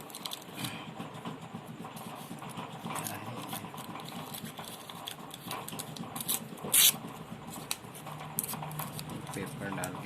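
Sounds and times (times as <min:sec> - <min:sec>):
hands scratching circuit board: 0:01.9 - 0:10.0.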